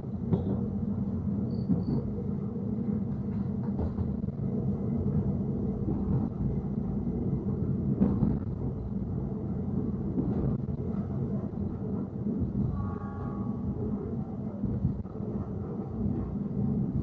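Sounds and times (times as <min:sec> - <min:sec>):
train coach rumbling on rails: 0:00.0 - 0:17.0.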